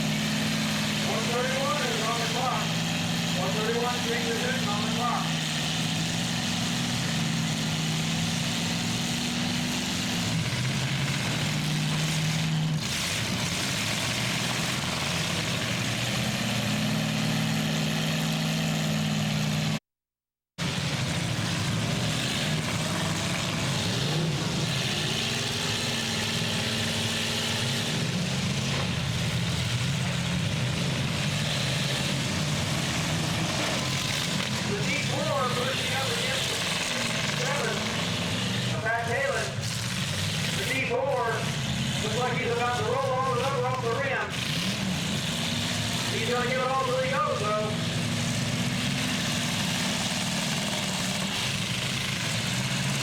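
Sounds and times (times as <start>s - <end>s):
truck engines revving: 0.0s - 19.8s, 20.6s - 53.0s.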